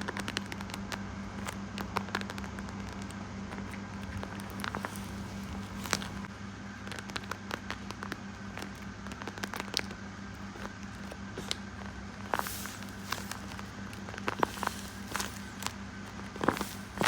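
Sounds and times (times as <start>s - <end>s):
crackles and clicks handling materials: 0.0s - 17.0s
steady low hum: 0.0s - 17.0s.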